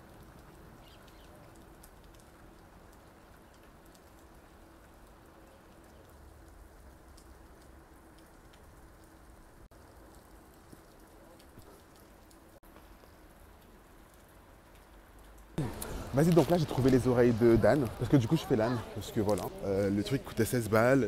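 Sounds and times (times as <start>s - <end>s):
light rain patter: 0.0s - 21.0s.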